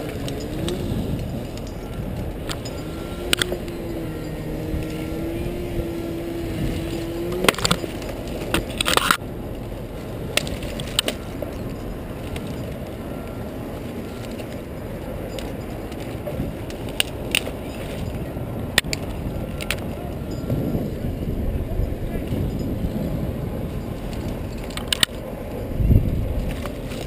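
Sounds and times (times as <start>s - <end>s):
crane engine rumble: 0.0s - 27.0s.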